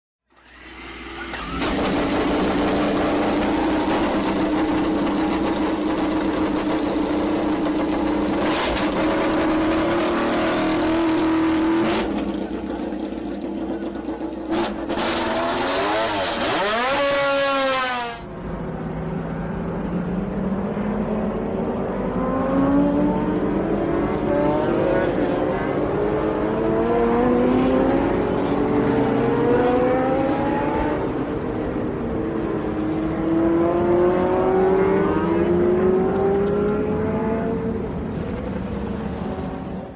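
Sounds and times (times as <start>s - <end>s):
racing motorcycle engine revving: 0.4s - 18.3s, 20.7s - 38.0s.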